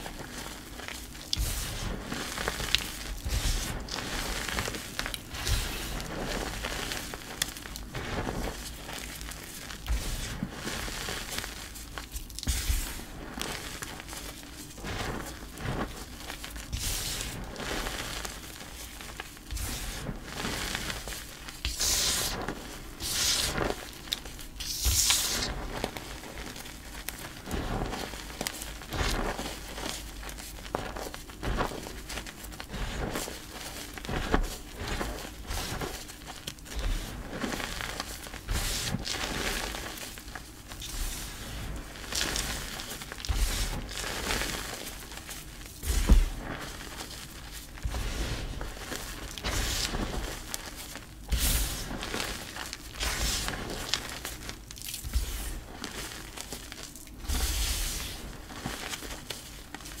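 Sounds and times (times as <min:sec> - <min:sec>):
hands crushing chalk: 0:00.4 - 0:41.4, 0:42.0 - 1:00.0.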